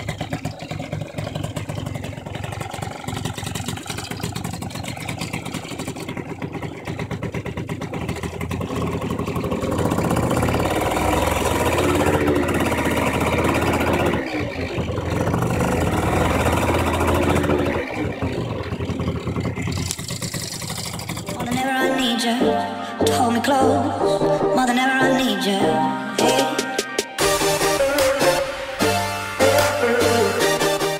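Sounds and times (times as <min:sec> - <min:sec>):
scooter engine revving: 0:00.0 - 0:26.6, 0:27.2 - 0:30.9.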